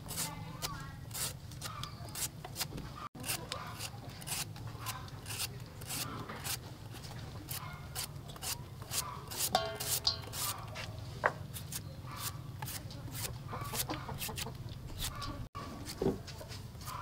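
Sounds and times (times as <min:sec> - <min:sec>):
slicer rasping bamboo shoot: 0:00.0 - 0:10.9, 0:11.5 - 0:16.2.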